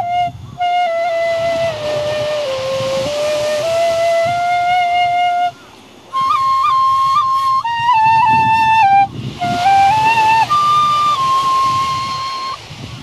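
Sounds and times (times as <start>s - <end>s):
bamboo flute melody: 0.0s - 13.0s.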